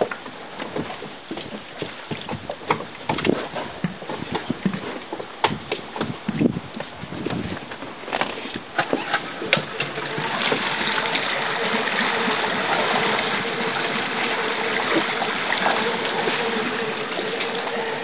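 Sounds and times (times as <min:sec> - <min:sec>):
outboard motor running: 0:00.0 - 0:18.0
water washing past hull: 0:00.0 - 0:18.0.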